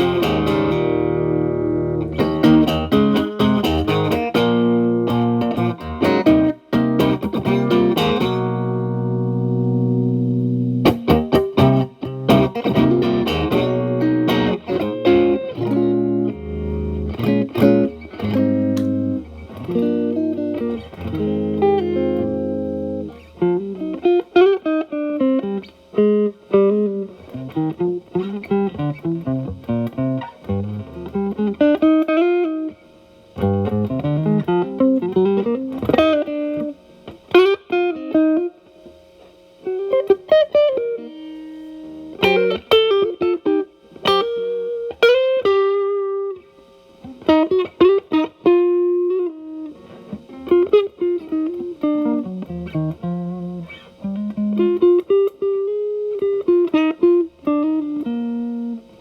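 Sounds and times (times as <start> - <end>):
distorted electric guitar: 0.0 - 59.0
guitar lead lines with string bends: 0.0 - 59.0.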